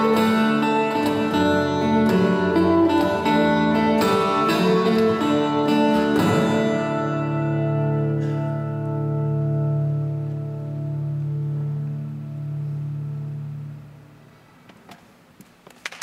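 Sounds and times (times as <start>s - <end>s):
acoustic guitar plucking and strumming: 0.0s - 14.7s.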